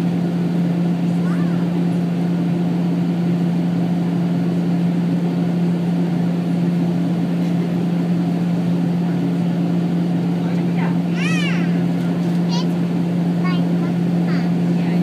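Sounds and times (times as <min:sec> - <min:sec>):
engine and airflow rush: 0:00.0 - 0:15.0
low cabin hum: 0:00.0 - 0:15.0.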